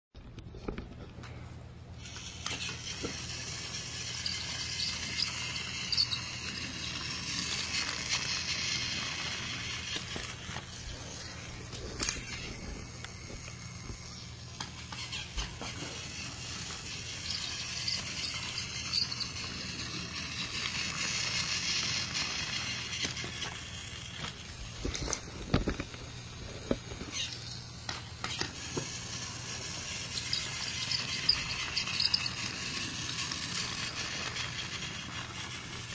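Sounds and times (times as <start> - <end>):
toy train clicks and knocks: 2.0 - 35.9
toy train motor whirring: 2.0 - 35.9.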